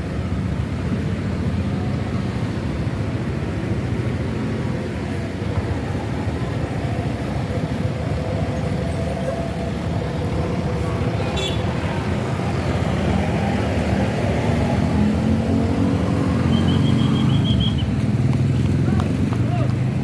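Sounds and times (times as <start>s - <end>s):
buses driving past: 0.0s - 20.0s.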